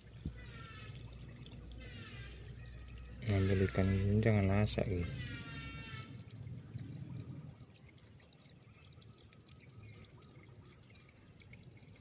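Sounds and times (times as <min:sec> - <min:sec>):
shallow water trickling and lapping: 0:00.0 - 0:12.0.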